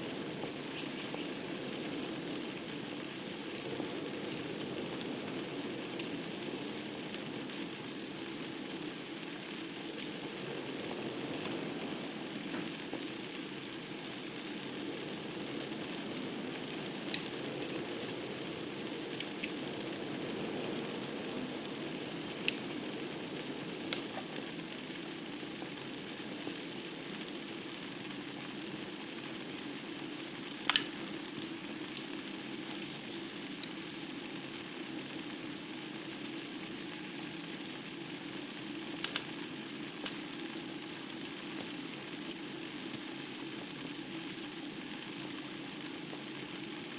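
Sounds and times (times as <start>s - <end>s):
crackles and pops of burning logs: 0.0s - 46.9s
fire hissing: 0.0s - 46.9s.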